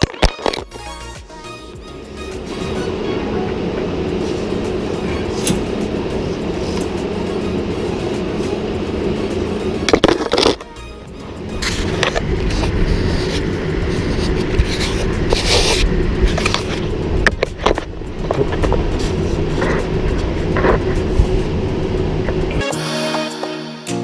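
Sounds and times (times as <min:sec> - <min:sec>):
steady low hum: 0:00.6 - 0:22.7.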